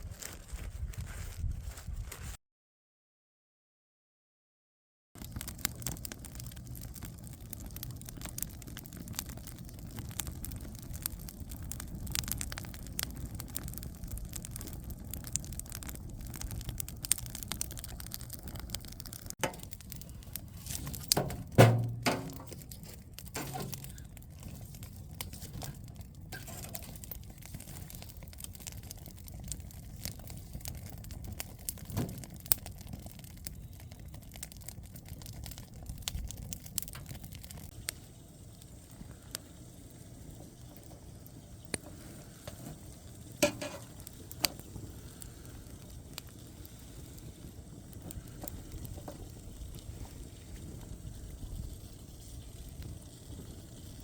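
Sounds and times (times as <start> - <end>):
wood fire crackling: 0.0 - 2.4, 5.2 - 54.0.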